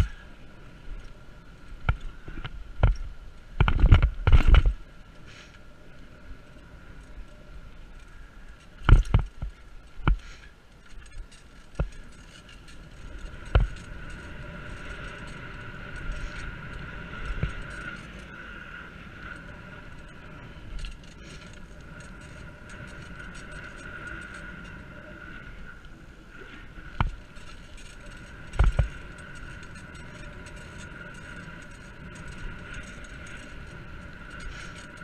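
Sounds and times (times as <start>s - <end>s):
constant high hum: 0.0s - 35.0s.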